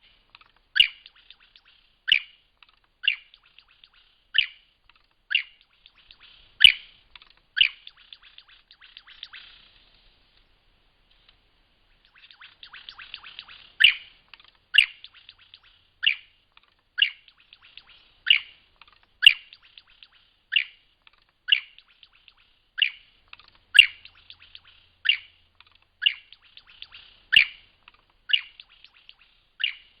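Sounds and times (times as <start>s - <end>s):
bird singing: 0.0s - 6.9s, 7.6s - 9.7s, 12.0s - 30.0s.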